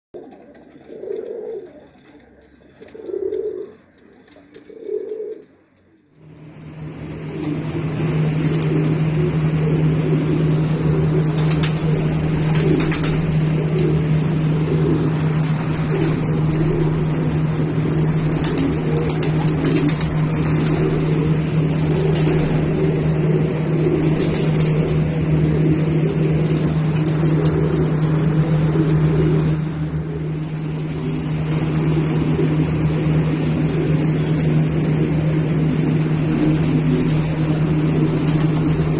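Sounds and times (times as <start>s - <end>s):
pigeons cooing: 0.2s - 38.9s
loud steady low hum: 5.4s - 38.9s.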